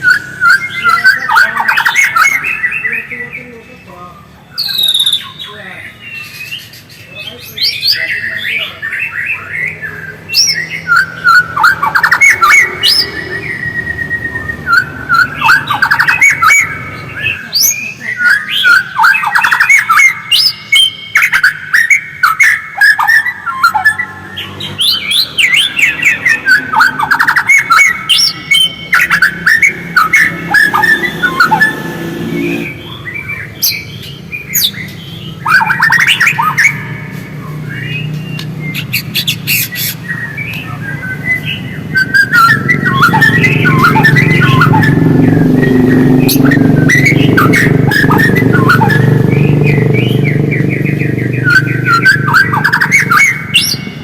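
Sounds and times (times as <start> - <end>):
bird singing trills and whistles: 0.0 - 54.0.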